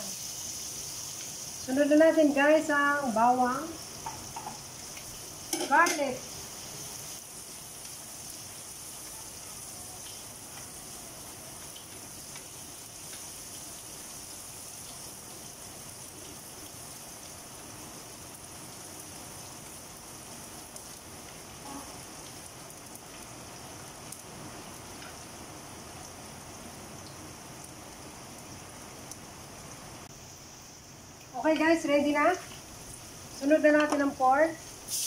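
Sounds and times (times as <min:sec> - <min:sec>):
onion and garlic sizzling in oil: 0:00.0 - 0:35.0.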